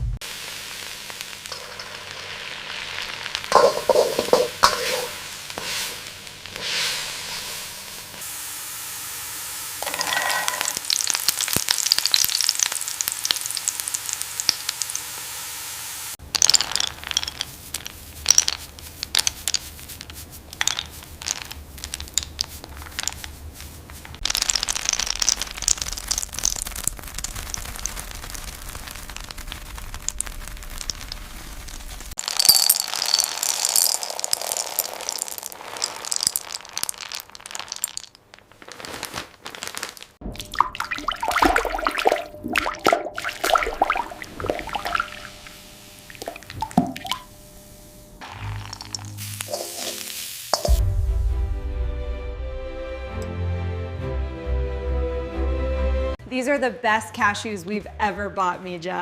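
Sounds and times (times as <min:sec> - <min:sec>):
nuts sizzling and crackling: 0:00.1 - 0:50.9.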